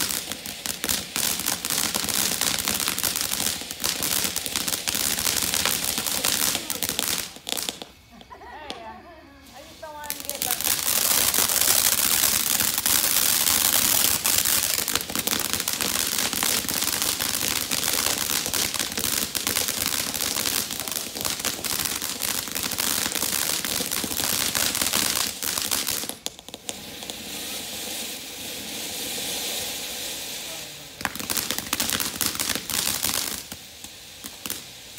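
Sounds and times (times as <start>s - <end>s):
fountain firework hissing and crackling: 0.0s - 34.9s.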